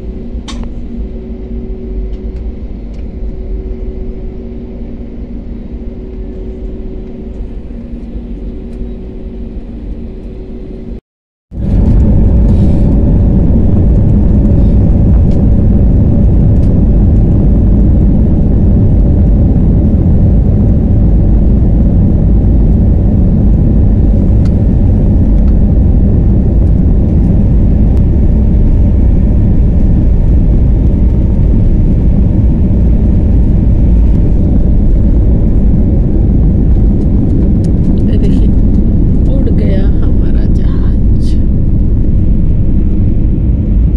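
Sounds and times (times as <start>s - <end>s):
jet engines roaring at takeoff: 0.0s - 11.0s, 11.6s - 43.9s
jet engine hum in cabin: 0.0s - 43.9s.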